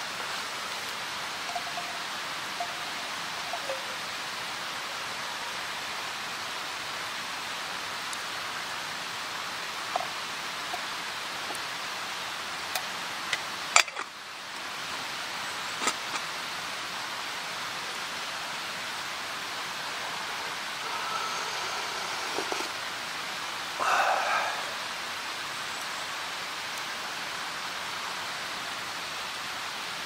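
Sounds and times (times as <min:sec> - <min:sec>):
steady rushing outdoor noise: 0:00.0 - 0:30.0.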